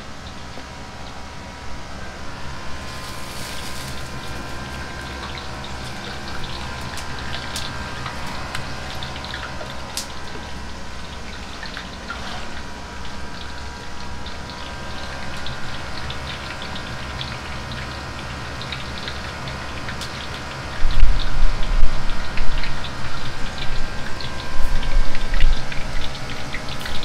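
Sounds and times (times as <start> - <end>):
hot oil crackling and popping: 0.0 - 27.0.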